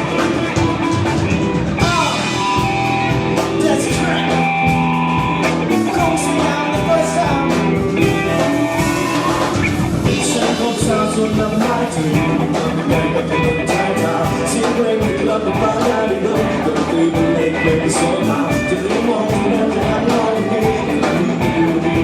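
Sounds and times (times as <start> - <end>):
drums playing a steady beat: 0.0 - 22.0
electric guitars: 0.0 - 22.0
person singing: 1.7 - 22.0.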